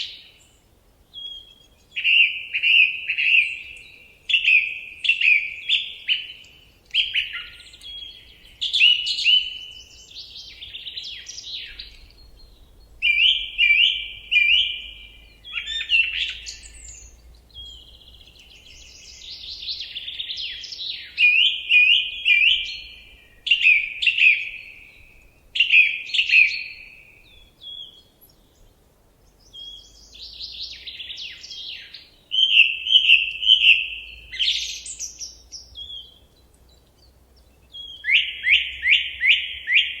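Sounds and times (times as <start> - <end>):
songbird singing: 0.0 - 40.0.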